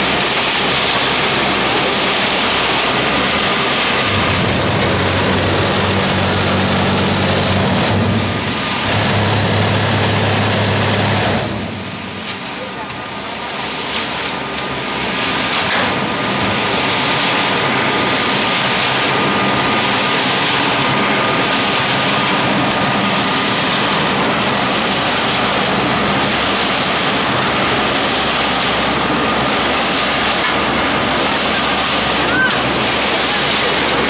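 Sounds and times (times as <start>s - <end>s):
concrete mixer drum turning: 0.0s - 34.0s.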